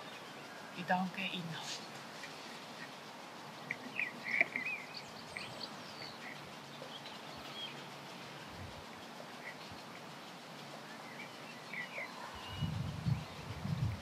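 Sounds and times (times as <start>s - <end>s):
small birds chirping: 0.0s - 14.0s
steady background hiss: 0.0s - 14.0s.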